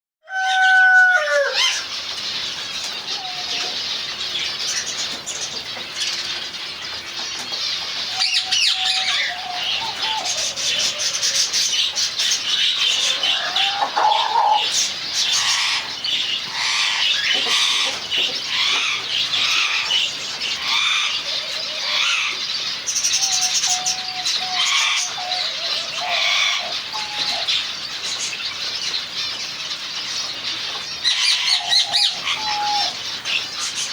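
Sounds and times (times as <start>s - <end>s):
low drawn-out bird calls: 0.3s - 33.9s.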